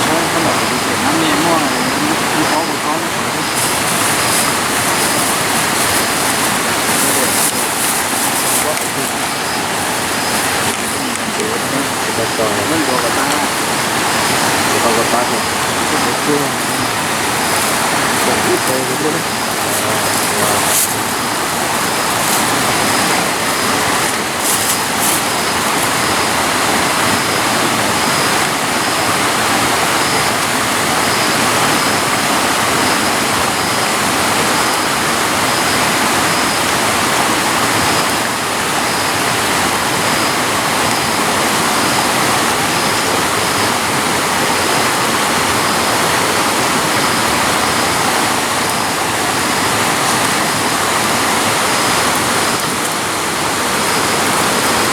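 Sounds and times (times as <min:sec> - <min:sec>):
water rushing: 0:00.0 - 0:54.9.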